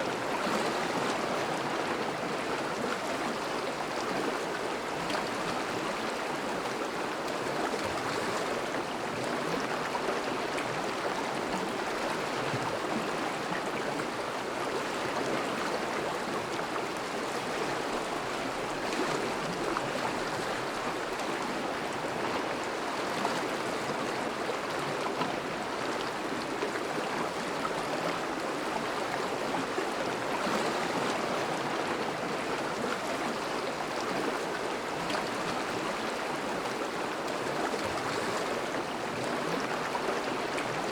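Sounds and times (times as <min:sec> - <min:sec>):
river water rushing over ice: 0:00.1 - 0:40.9.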